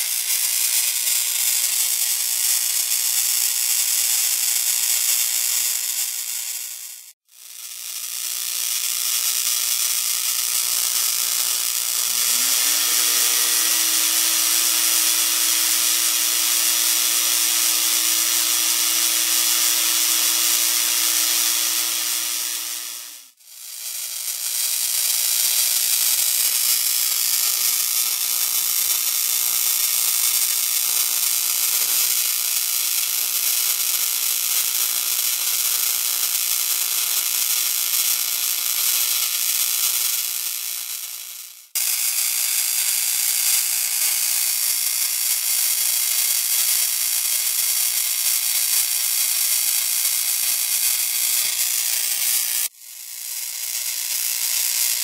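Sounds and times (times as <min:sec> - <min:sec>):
high-voltage discharge hiss: 0:00.0 - 0:41.2, 0:41.8 - 0:52.7.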